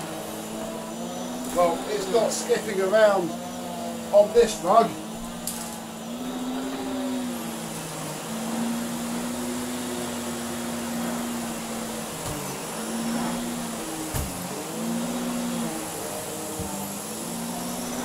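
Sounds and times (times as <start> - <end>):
vacuum cleaner humming: 0.0 - 18.0.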